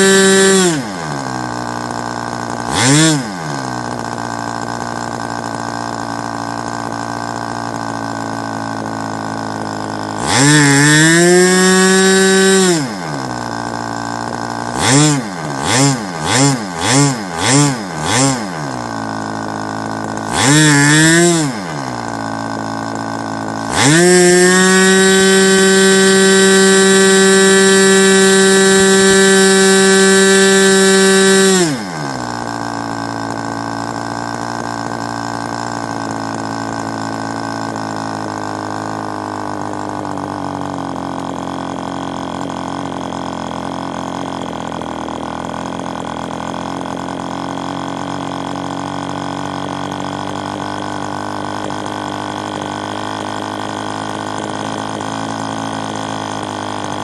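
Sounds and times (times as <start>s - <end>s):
model engine revving: 0.0s - 57.0s.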